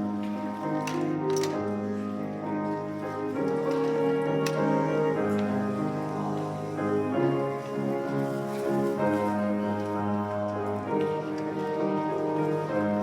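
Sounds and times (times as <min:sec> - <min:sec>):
organ chords: 0:00.0 - 0:13.0.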